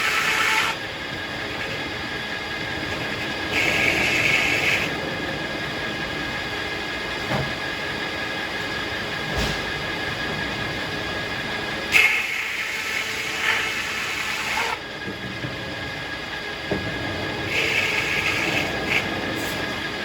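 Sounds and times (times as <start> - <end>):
circular saw humming: 0.0 - 20.0.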